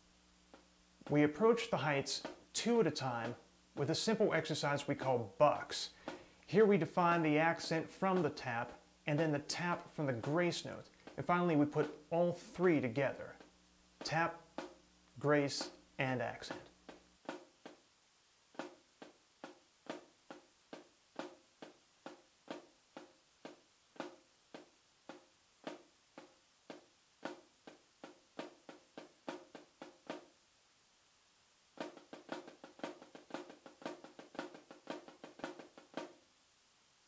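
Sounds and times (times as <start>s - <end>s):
snare drum strokes: 0.0s - 17.9s, 18.5s - 30.4s, 31.7s - 36.2s.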